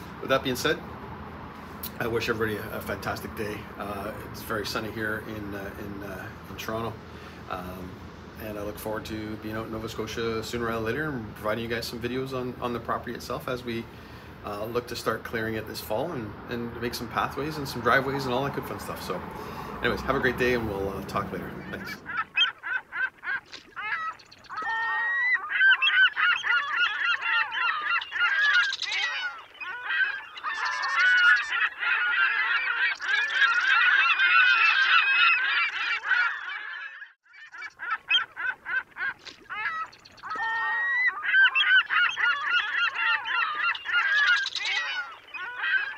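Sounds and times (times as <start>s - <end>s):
waterbirds calling: 0.0s - 45.9s.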